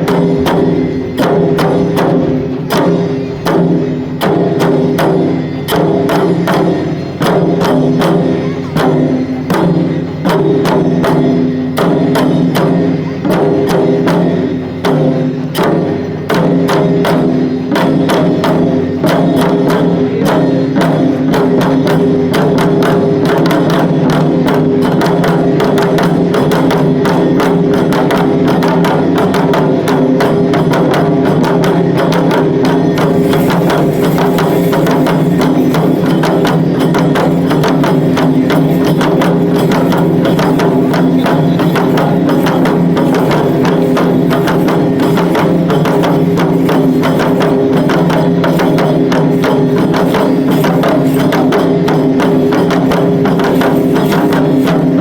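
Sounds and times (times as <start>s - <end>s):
drums in fast rhythm: 0.0s - 55.0s.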